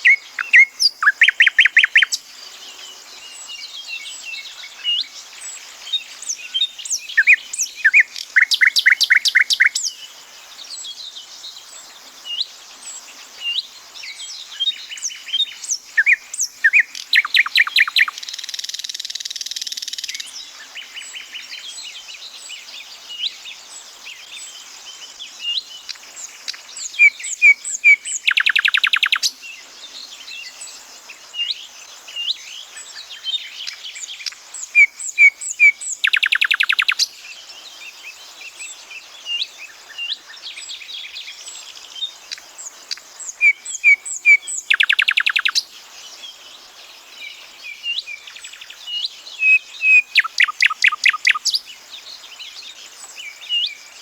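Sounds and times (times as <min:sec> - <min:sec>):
nightingale singing: 0:00.0 - 0:54.0
small birds chirping faintly: 0:00.0 - 0:54.0.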